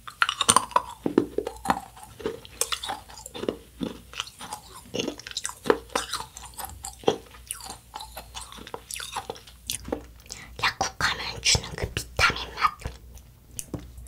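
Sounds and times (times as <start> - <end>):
child chewing candy: 0.0 - 14.0.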